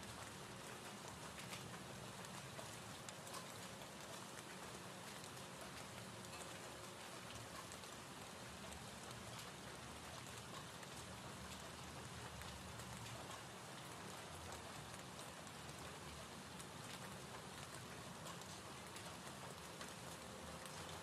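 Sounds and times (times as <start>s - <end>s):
tiny raindrop ticks: 0.0s - 21.0s.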